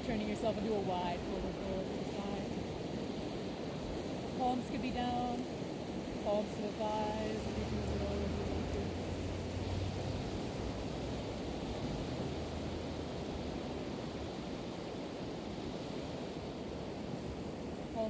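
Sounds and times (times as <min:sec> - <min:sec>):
ocean surf: 0:00.0 - 0:18.0.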